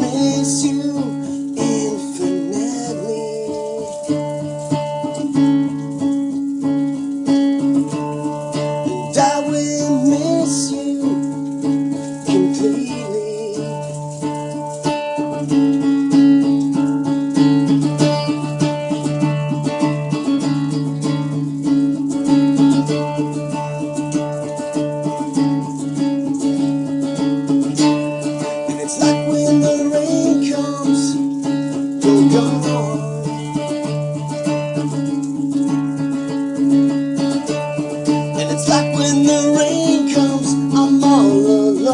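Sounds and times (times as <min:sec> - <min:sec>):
strummed acoustic string instrument: 0:00.0 - 0:41.9.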